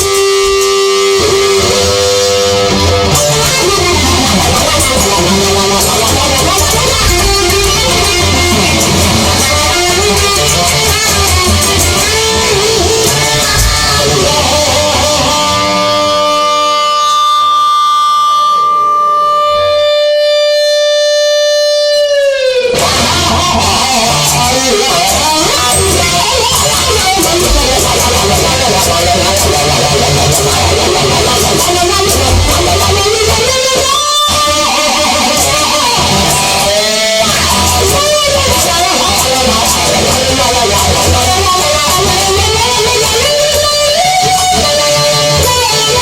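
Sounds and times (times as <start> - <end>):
electric guitar bending notes: 0.0 - 46.0
instrumental rock band: 0.0 - 46.0.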